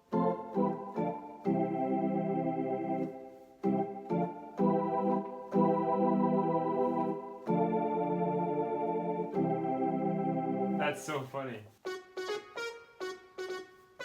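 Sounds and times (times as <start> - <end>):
electronic organ chords: 0.0 - 11.0, 11.8 - 14.0.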